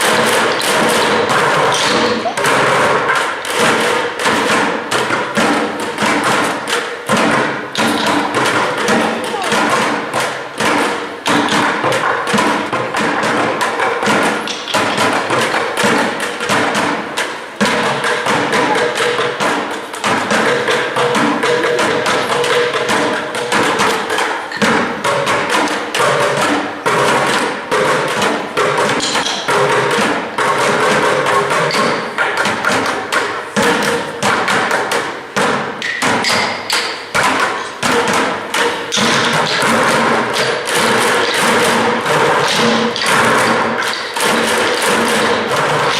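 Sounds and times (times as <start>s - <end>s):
music with percussive taps: 0.0s - 45.9s.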